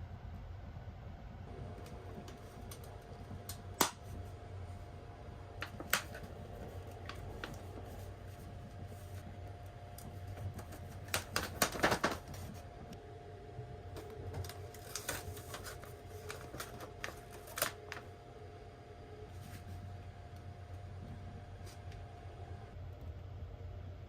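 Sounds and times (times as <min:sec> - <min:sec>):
low hum with thin whine: 0:00.0 - 0:24.0.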